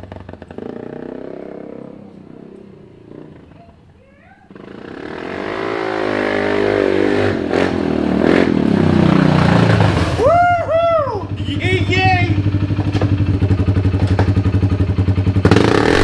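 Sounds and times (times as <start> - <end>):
atv engine revving: 0.0 - 16.0.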